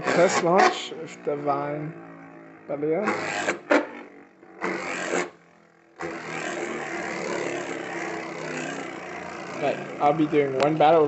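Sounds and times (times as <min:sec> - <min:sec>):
spinning top whirring on plastic: 0:00.0 - 0:11.0.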